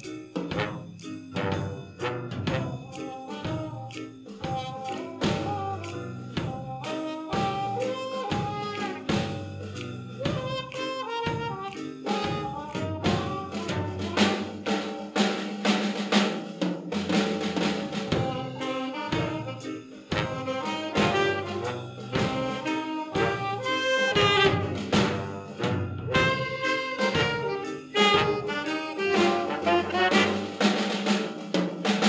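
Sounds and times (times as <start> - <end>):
drum kit with rimshots: 0.0 - 32.0
brass section: 0.5 - 9.6, 10.2 - 15.6, 17.3 - 32.0.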